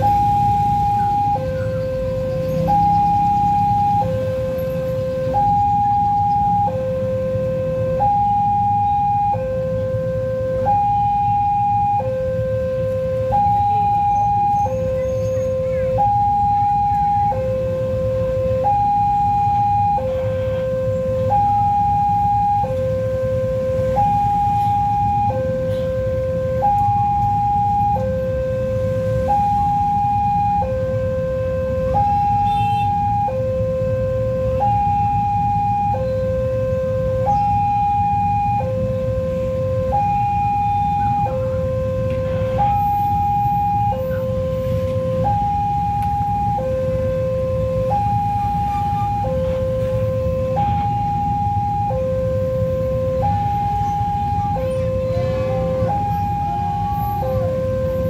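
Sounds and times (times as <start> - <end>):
two-tone level crossing alarm: 0.0 - 58.0.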